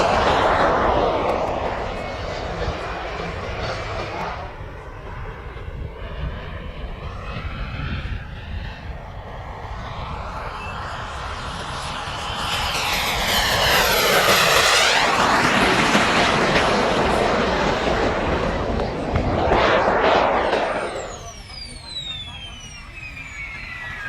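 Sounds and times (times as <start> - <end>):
aircraft engine flying past: 0.0 - 24.0.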